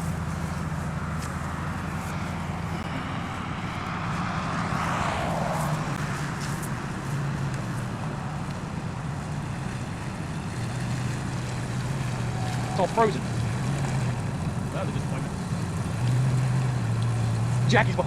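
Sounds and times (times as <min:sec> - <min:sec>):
tyre and ground noise: 0:00.0 - 0:18.0
vehicle engine running: 0:00.0 - 0:18.0.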